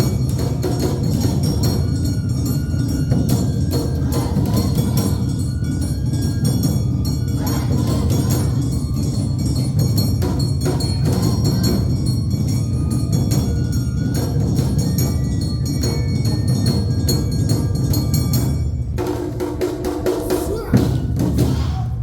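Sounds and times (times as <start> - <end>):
drums: 0.0 - 22.0.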